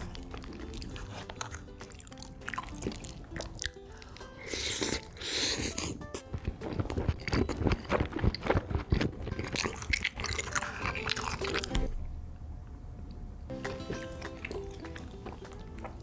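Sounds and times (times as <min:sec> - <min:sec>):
wet chewing and smacking: 0:00.0 - 0:11.9, 0:13.5 - 0:16.0.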